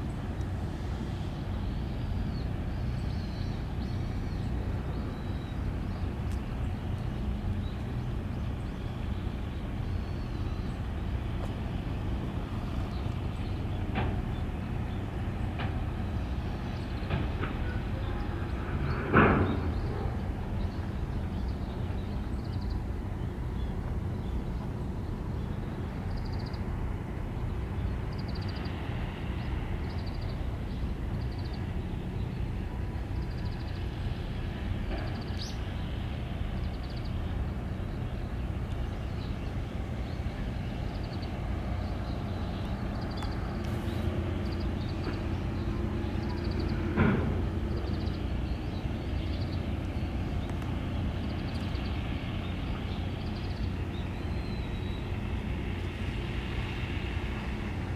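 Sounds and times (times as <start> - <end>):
water: 0.0 - 57.9
wind: 0.0 - 57.9.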